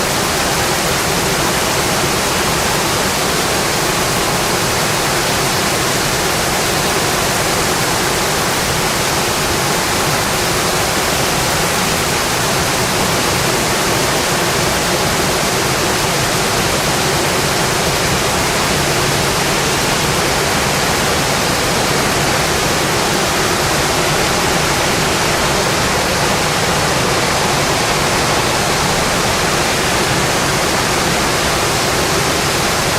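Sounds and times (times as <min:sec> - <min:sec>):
heavy rain on a metal roof: 0:00.0 - 0:32.9.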